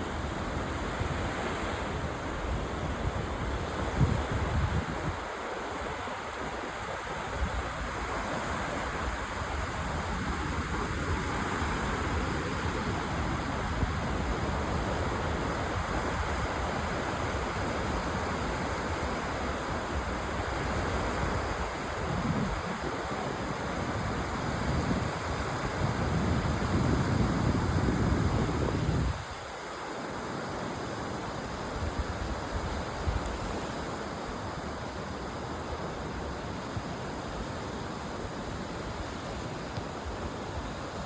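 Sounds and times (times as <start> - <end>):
waves washing onto beach: 0.0 - 41.0
wind: 0.0 - 41.0.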